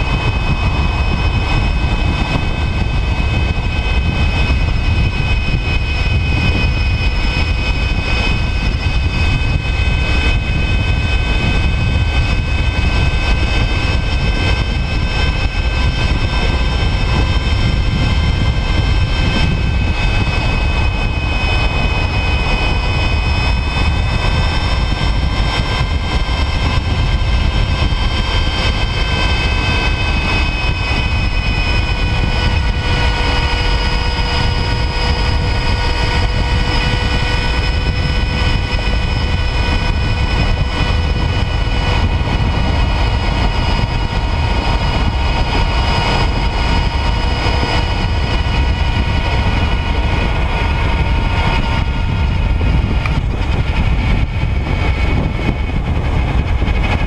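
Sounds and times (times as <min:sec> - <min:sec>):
electric motor whine: 0:00.0 - 0:57.0
wind rumble on microphone: 0:00.0 - 0:57.0.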